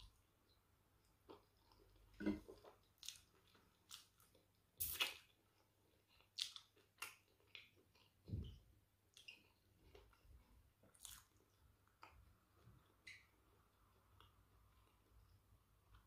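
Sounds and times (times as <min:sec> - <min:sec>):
close chewing mouth sounds: 0:01.2 - 0:16.0.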